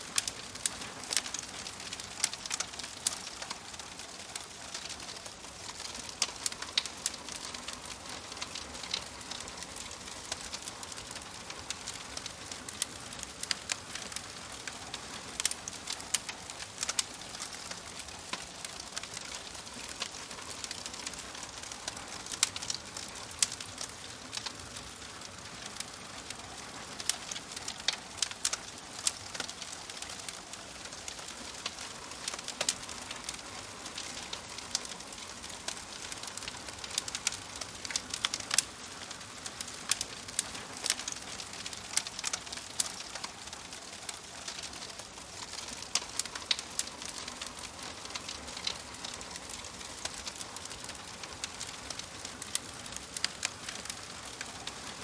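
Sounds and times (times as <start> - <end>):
fire crackling and popping: 0.0 - 55.0
soft fire hiss: 0.0 - 55.0.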